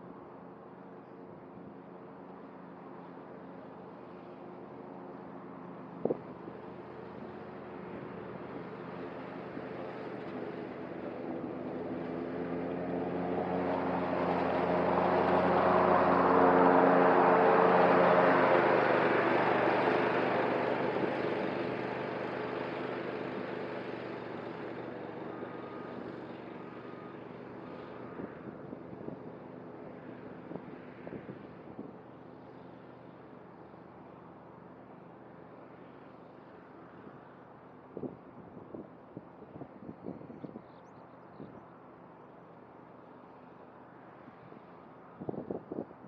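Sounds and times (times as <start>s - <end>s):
riding mower running: 0.0s - 40.8s.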